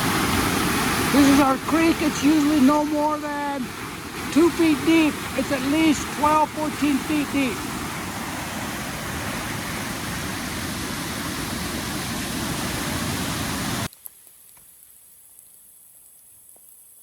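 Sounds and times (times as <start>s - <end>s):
flooded creek rushing: 0.0s - 13.9s.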